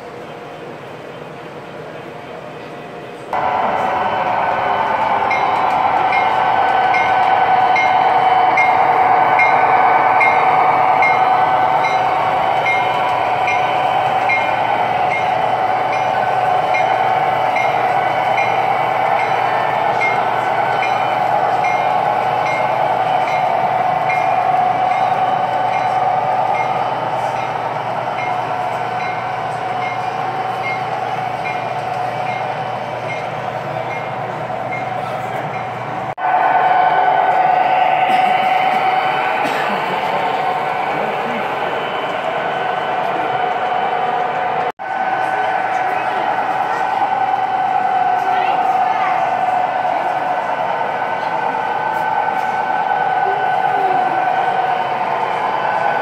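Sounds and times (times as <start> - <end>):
model train humming: 3.1 - 56.0.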